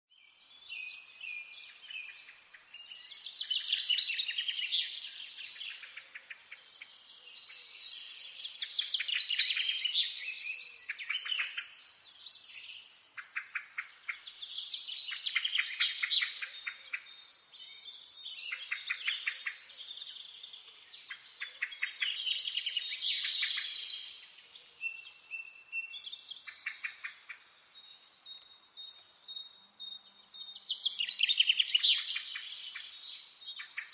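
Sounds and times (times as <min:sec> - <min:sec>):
songbirds trilling: 0:00.6 - 0:33.9.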